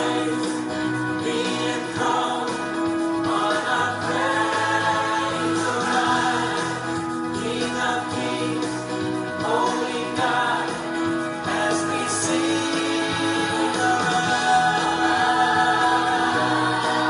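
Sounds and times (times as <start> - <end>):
choir singing worship music: 0.0 - 17.0.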